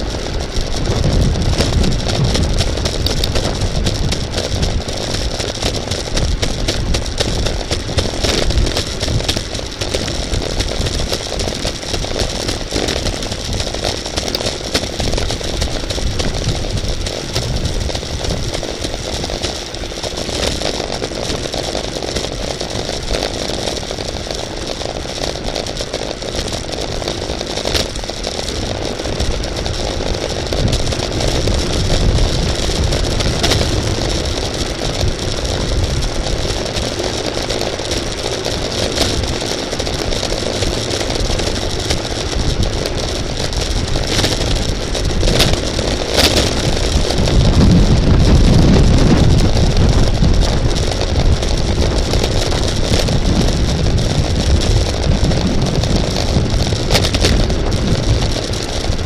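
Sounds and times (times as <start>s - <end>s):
bicycle rolling on road: 0.0s - 59.0s
wind rushing over microphone: 0.0s - 59.0s.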